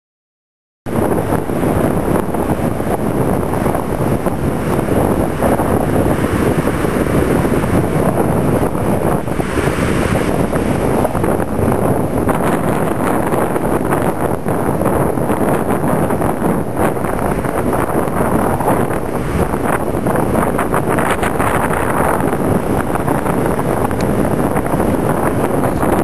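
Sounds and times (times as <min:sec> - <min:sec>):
ocean surf breaking on beach: 0:00.9 - 0:26.0
wind buffeting microphone: 0:00.9 - 0:26.0.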